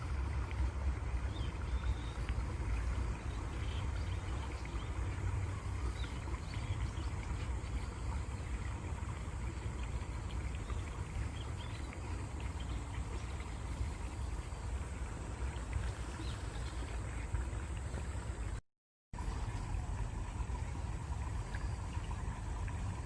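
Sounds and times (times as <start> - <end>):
small water splashes: 0.0 - 18.6, 19.2 - 23.0
stream water running: 0.0 - 23.0.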